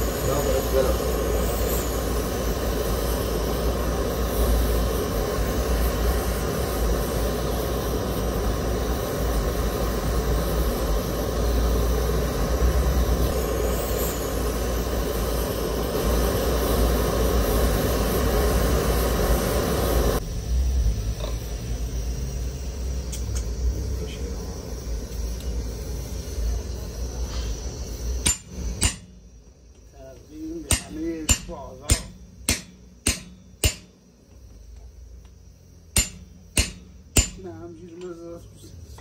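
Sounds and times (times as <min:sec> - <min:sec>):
gas burner rushing: 0:00.0 - 0:39.0.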